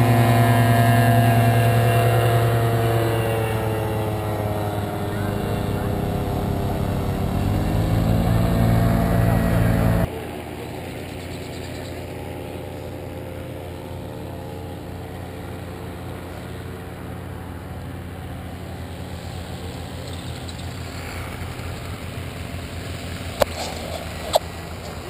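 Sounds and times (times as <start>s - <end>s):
paramotor engine idling: 0.0s - 25.0s.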